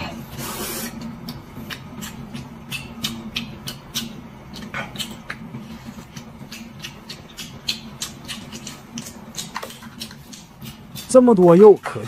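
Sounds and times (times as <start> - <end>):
low steady hum: 0.0 - 12.0
person chewing with lip-smacking: 0.4 - 11.2.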